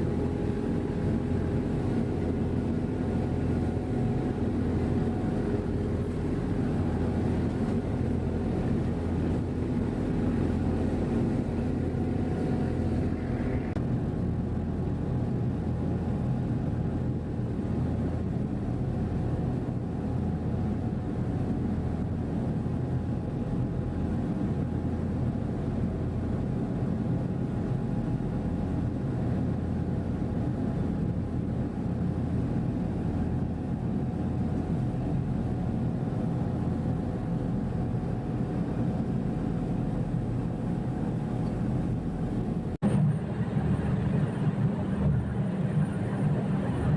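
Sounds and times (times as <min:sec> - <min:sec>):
ferry engine drone: 0:00.0 - 0:46.9.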